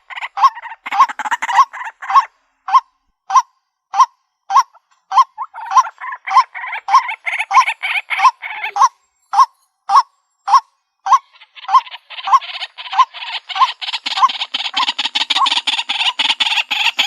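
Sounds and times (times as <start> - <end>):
harsh bird calling: 0.0 - 17.0
waterhen croaking call: 0.0 - 17.0.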